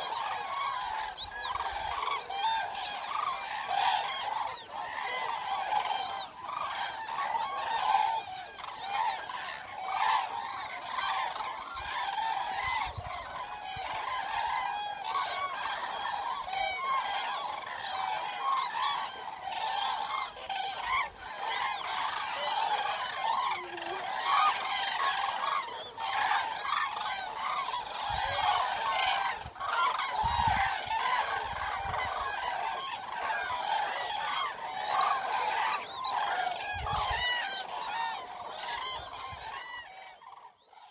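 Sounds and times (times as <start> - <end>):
cranes honking calls: 0.0 - 40.9.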